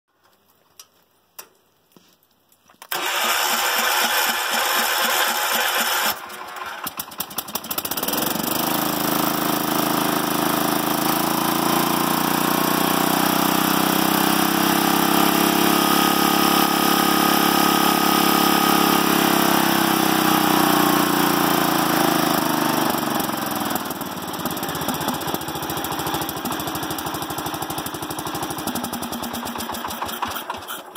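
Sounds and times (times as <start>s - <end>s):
small engine running and idling: 2.9s - 30.9s
starter cranking engine: 2.9s - 30.9s.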